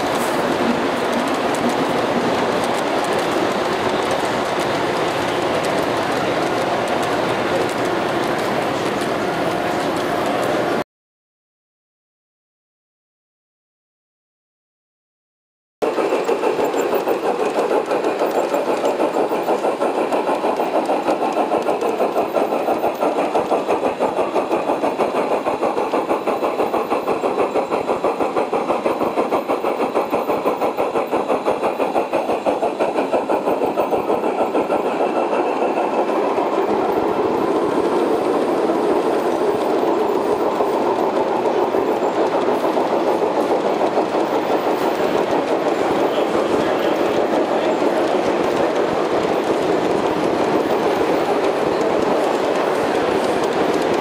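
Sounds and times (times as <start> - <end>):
model train wheels clattering: 0.0 - 10.8, 15.8 - 54.0.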